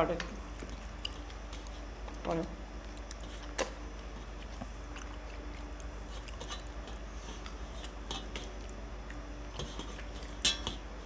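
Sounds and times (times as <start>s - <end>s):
faint steady hum: 0.0s - 11.0s
people chewing food: 0.4s - 11.0s.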